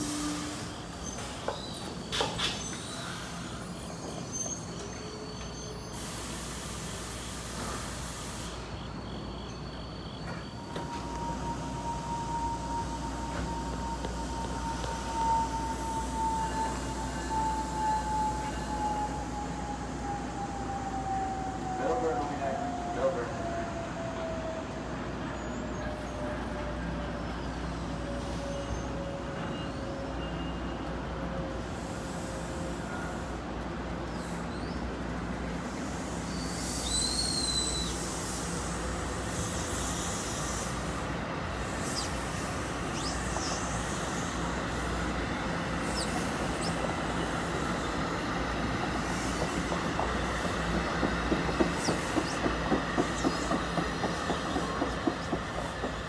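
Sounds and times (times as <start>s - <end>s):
high wheel squeal: 0.0s - 23.2s, 25.3s - 33.4s, 35.6s - 56.0s
train rumbling past: 0.0s - 56.0s.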